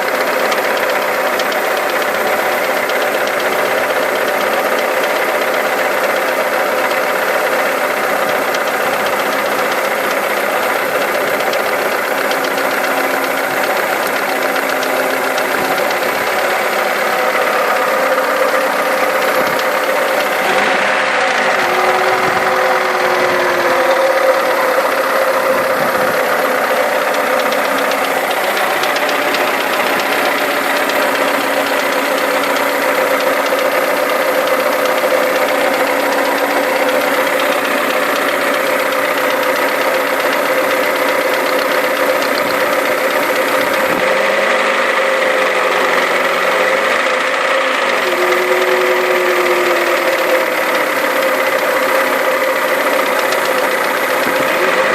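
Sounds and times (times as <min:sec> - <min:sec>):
car engine idling: 0:00.0 - 0:54.9
engine clicking chatter: 0:00.0 - 0:54.9.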